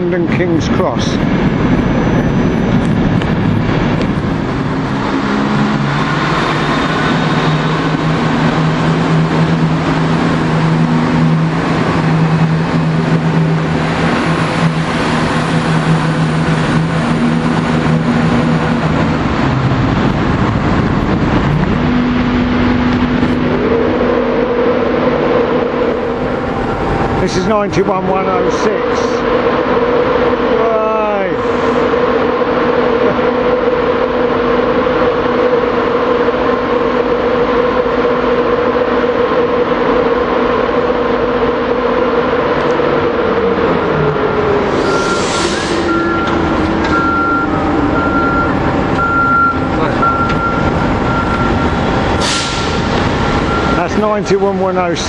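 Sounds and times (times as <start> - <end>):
electric locomotive hum: 0.0 - 55.0
train running noise: 0.0 - 55.0
rising high tone: 1.4 - 54.0.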